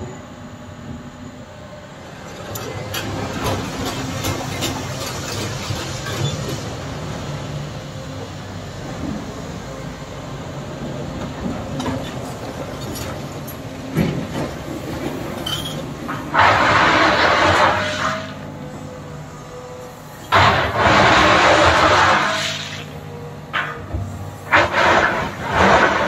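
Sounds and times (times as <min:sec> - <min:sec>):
excavator running: 0:00.0 - 0:26.0.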